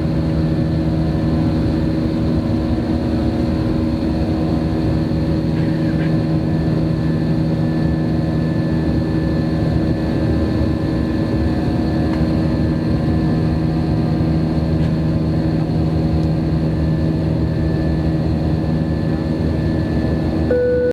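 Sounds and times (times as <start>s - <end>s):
jet engine cabin drone: 0.0s - 20.9s.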